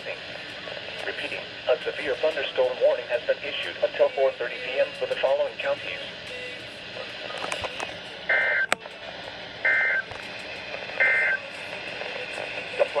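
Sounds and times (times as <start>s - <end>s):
radio static hiss: 0.0s - 6.2s, 6.8s - 8.8s, 9.6s - 13.0s.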